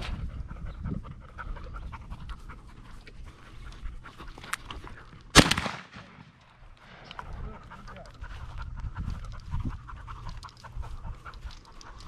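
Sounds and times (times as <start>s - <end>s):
dog panting: 0.0s - 5.3s, 7.1s - 12.0s.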